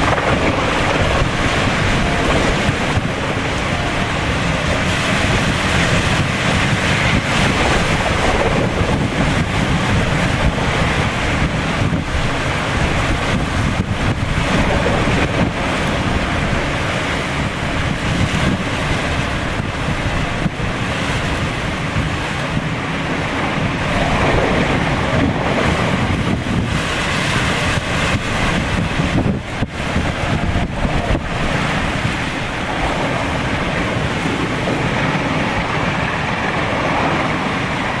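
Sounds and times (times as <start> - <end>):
gusting wind: 0.0 - 38.0
wind buffeting microphone: 0.0 - 38.0.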